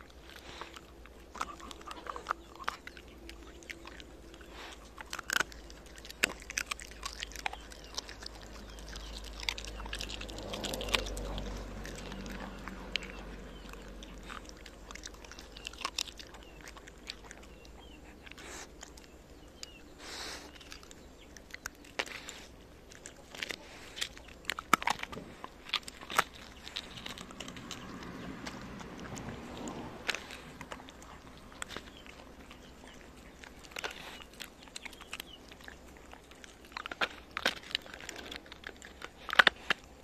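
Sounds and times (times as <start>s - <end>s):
dog crunching bones: 0.0s - 40.0s.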